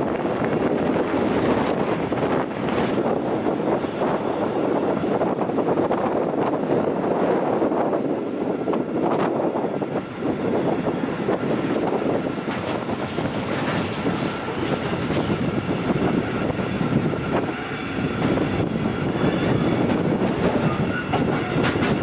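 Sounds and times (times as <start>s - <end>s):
train wagons rumbling on rails: 0.0s - 22.0s
wind rushing over microphone: 0.0s - 22.0s.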